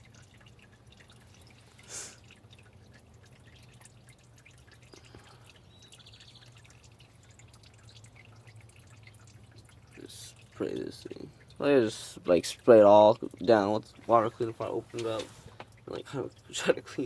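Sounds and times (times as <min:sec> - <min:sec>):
faint dripping and ticking: 0:00.0 - 0:17.0.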